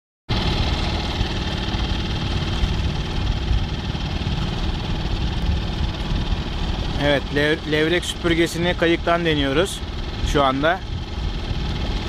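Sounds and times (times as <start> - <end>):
boat engine running: 0.3 - 12.0.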